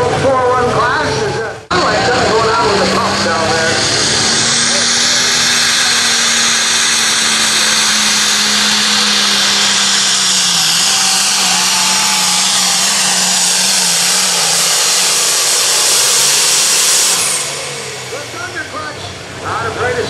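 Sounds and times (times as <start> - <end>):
diesel engine running flat out: 0.0 - 20.0
turbo whine: 0.0 - 20.0.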